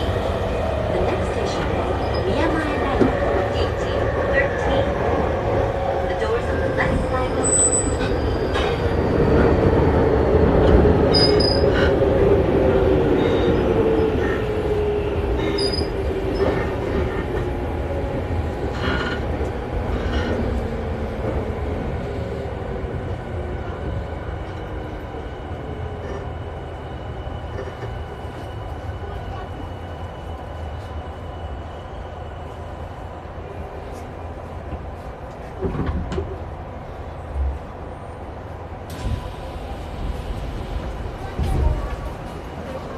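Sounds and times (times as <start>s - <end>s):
electric train slowing on rails: 0.0s - 42.9s.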